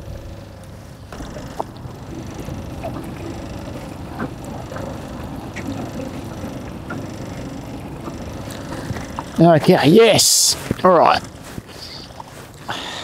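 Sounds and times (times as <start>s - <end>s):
water noise around boat: 0.0s - 13.0s.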